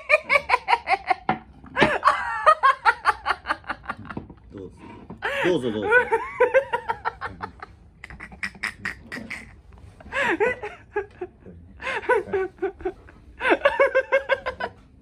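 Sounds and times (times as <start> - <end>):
man laughing: 0.0 - 4.2, 5.2 - 14.8.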